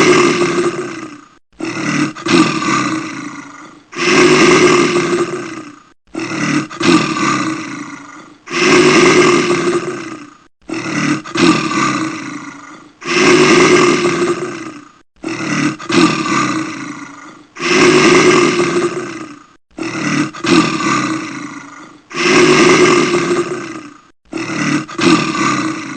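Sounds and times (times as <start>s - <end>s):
bear roaring: 0.0s - 25.9s.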